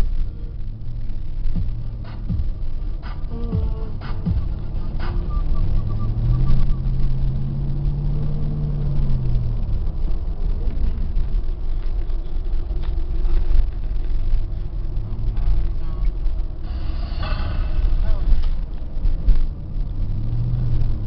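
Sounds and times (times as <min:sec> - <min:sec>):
low hum: 0:00.0 - 0:21.0
vehicle road noise and engine rumble: 0:00.0 - 0:21.0.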